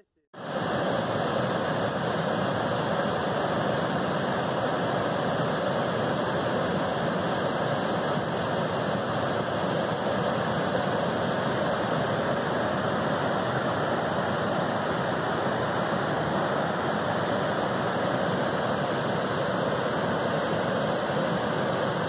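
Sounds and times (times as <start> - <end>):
river rushing roar: 0.4 - 22.0.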